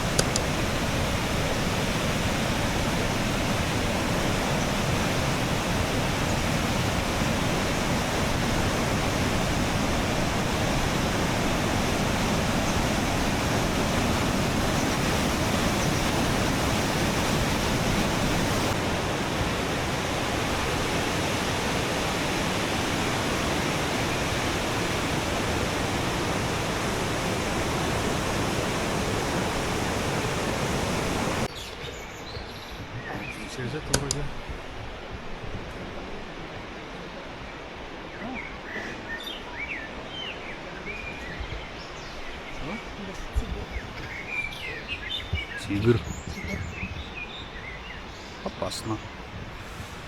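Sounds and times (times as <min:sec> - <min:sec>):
rushing white water roar: 0:00.0 - 0:50.0.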